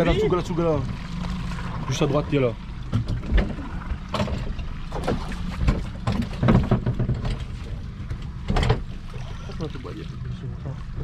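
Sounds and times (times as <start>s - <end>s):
boat motor running: 0.0s - 11.0s
water splashing against hull: 0.0s - 11.0s.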